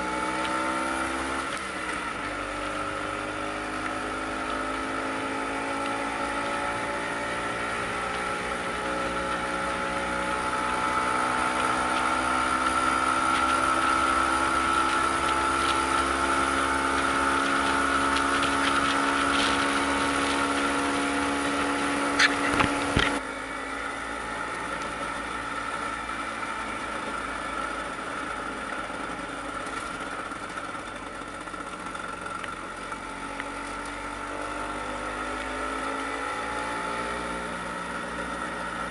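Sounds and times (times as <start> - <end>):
scooter two-stroke engine running: 0.0 - 38.9.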